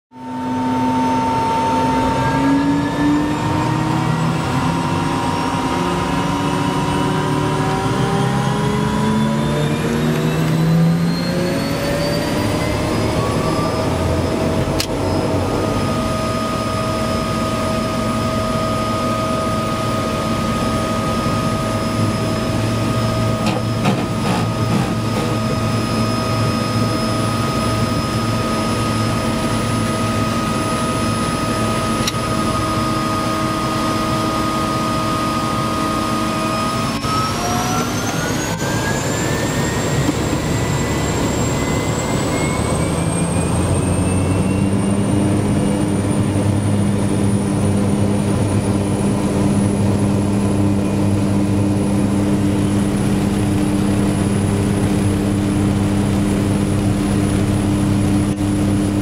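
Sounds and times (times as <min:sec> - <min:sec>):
propeller plane engine drone: 0:00.1 - 0:59.0.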